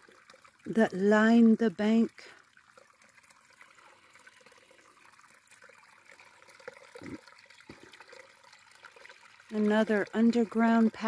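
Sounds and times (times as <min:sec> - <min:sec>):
creek running faintly: 0:00.0 - 0:11.0.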